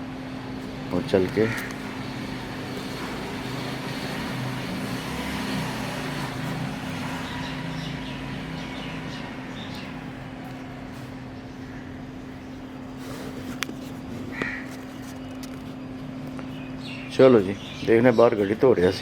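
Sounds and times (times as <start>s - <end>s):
outdoor background noise: 0.0s - 19.0s
steady hum: 0.0s - 19.0s.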